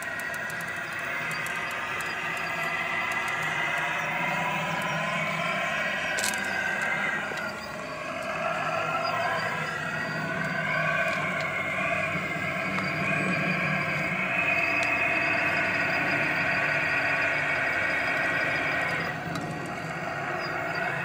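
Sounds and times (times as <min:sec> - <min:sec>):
electric motors whining: 0:00.0 - 0:21.0
steady low hum: 0:00.0 - 0:21.0.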